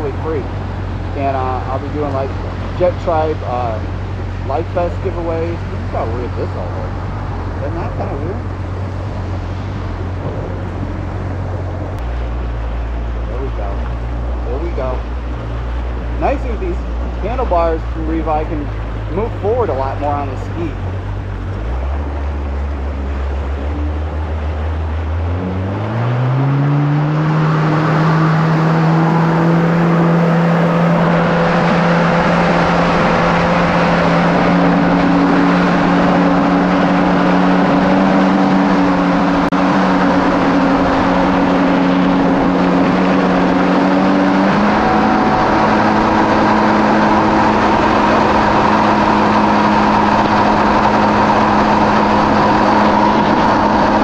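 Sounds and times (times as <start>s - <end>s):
jet ski engine revving: 0.0s - 54.0s
rush of water and air: 0.0s - 54.0s.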